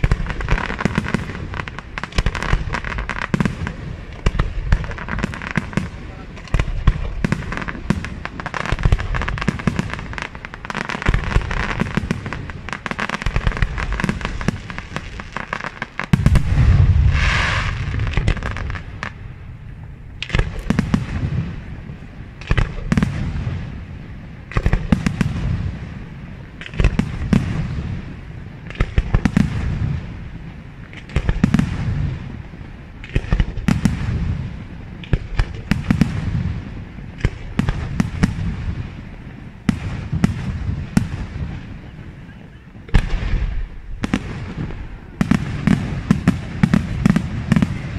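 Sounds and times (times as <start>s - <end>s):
fireworks bursting with booms: 0.0s - 47.9s
fireworks crackling: 0.0s - 47.9s.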